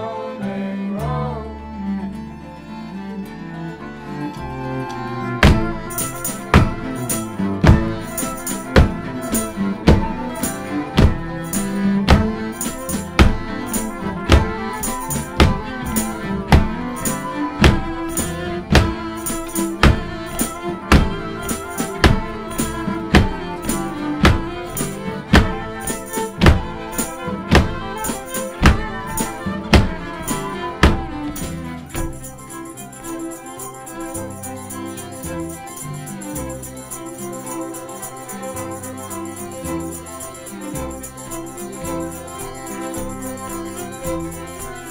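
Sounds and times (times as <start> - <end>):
double bass: 0.0 - 44.9
fiddles: 0.0 - 44.9
nylon-string guitar: 0.0 - 44.9
percussion beat: 5.2 - 44.9.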